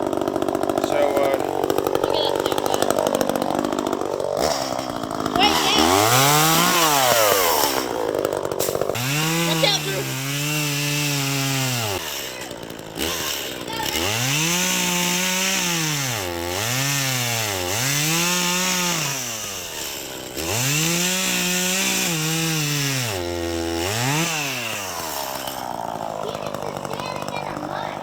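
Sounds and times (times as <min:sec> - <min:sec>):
chainsaw cutting tree trunk: 0:00.0 - 0:28.0.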